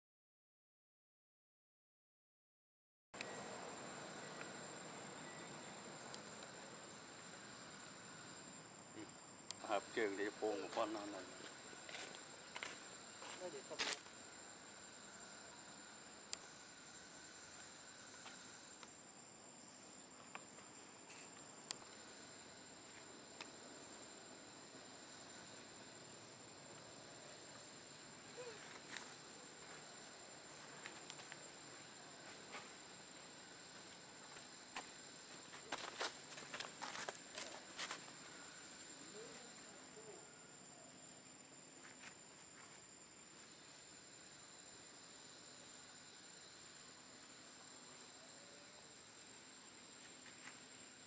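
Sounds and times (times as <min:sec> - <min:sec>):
high-pitched insect drone: 0:03.2 - 0:51.0.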